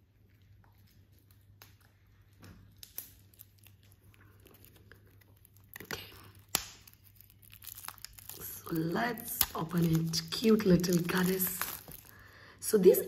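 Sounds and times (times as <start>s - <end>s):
cellophane wrap crinkling: 0.2s - 13.0s.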